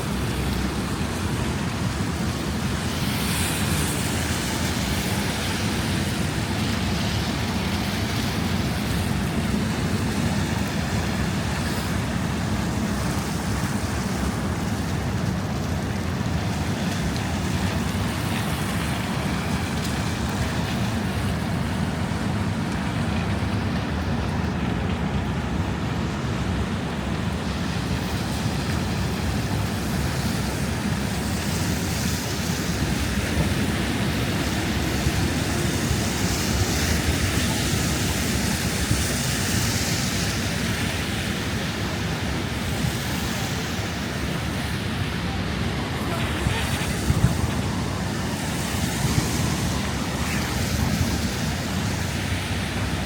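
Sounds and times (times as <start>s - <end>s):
city street noise: 0.0s - 53.0s
wind roaring over microphone: 0.0s - 53.0s.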